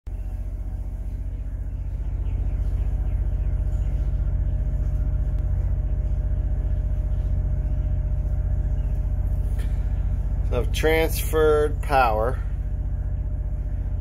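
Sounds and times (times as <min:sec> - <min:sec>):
generator running: 0:00.1 - 0:14.0.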